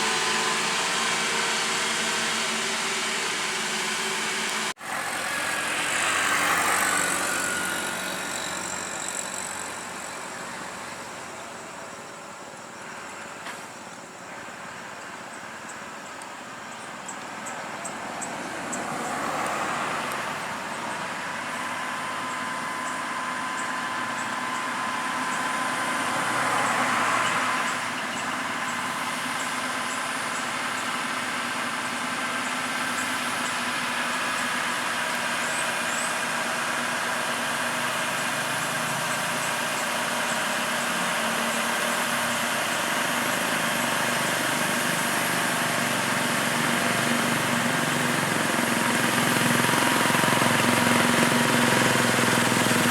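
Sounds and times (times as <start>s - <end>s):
heavy vehicle engines droning: 0.0s - 52.9s.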